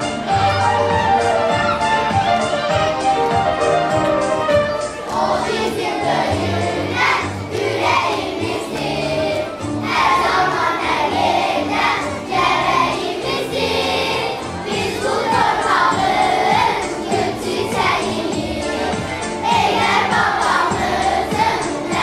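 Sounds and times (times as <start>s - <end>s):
children's choir singing: 0.0s - 22.0s
instrumental accompaniment: 0.0s - 22.0s.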